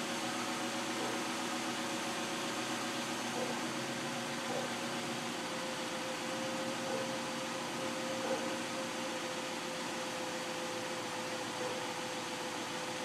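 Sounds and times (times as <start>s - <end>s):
car engine idling with whine: 0.0s - 13.0s.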